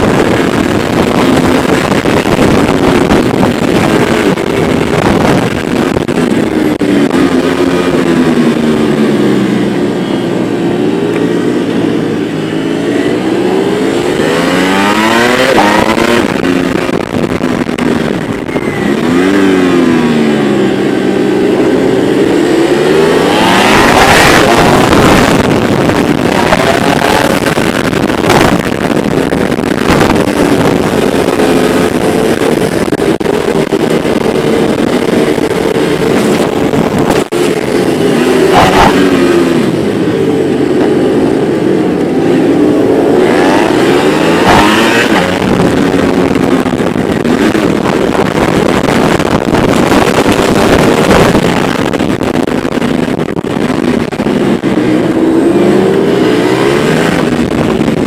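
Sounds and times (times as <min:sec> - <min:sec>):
motorcycle engines running: 0:00.0 - 0:58.0
wind noise on microphone: 0:00.0 - 0:58.0.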